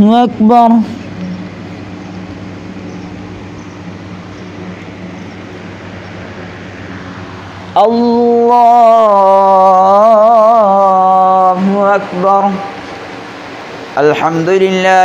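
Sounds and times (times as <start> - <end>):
ceiling fans humming: 0.0 - 15.0
microphone hiss: 0.0 - 15.0.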